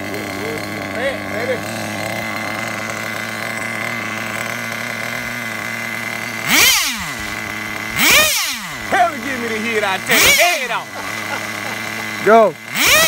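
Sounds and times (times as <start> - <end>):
nitro engine idling and revving: 0.0 - 13.0.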